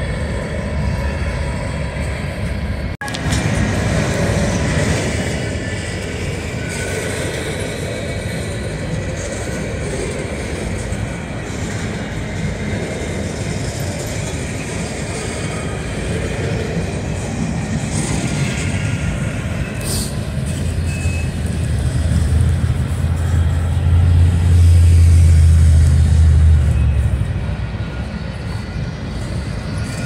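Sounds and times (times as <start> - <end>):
train wheels rolling on rails: 0.0 - 30.0.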